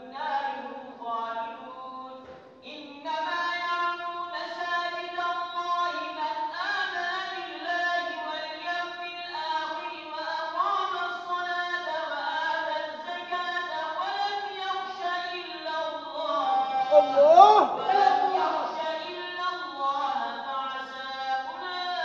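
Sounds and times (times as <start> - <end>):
man chanting recitation: 0.0 - 22.0.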